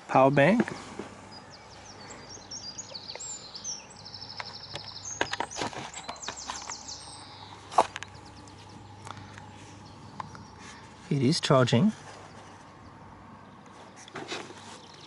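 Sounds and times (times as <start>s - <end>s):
low outdoor background: 0.0s - 15.0s
small birds singing: 0.0s - 15.0s.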